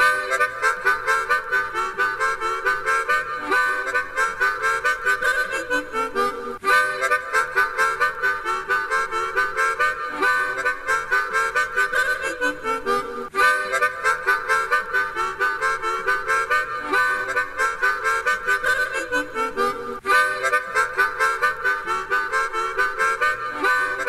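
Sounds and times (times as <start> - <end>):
instrumental theme tune: 0.0 - 24.0.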